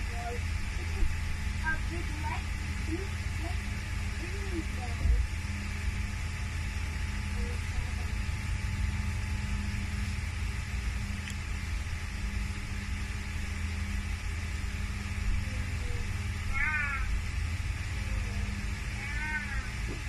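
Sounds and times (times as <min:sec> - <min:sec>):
faint hum: 0:00.0 - 0:20.0
steady low rumble: 0:00.0 - 0:20.0.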